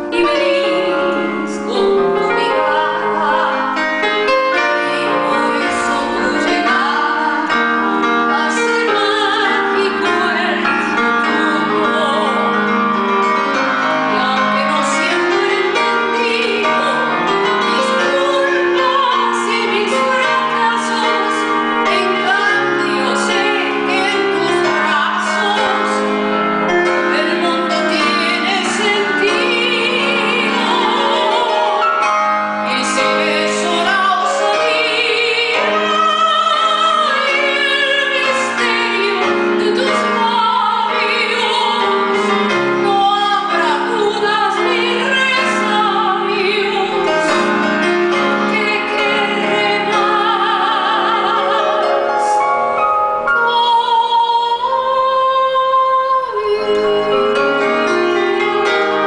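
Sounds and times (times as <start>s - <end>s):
keyboard piano chords: 0.0s - 59.0s
woman singing with vibrato: 0.0s - 59.0s.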